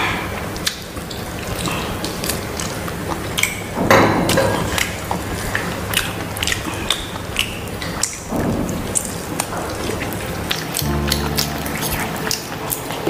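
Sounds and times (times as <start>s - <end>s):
chewing and lip smacks: 0.4s - 13.0s.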